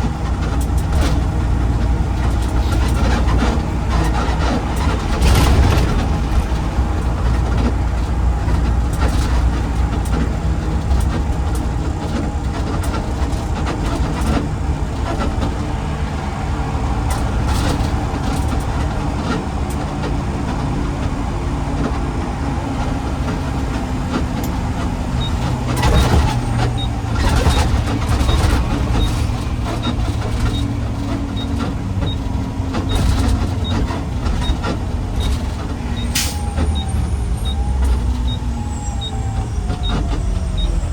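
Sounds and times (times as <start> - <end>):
garbage truck engine rumbling: 0.0 - 40.9
road noise: 0.0 - 40.9.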